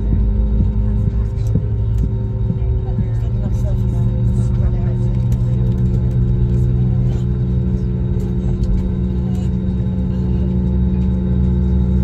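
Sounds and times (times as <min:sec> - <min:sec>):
jet engine cabin drone: 0:00.0 - 0:12.0.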